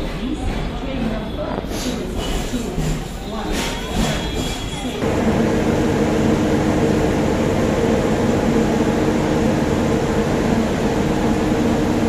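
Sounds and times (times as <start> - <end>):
train running: 0.0 - 12.0.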